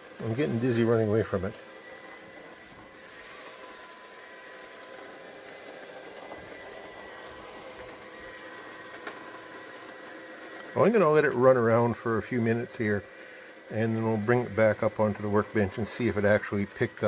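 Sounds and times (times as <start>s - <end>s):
robot vacuum cleaner whirring: 0.0s - 17.0s.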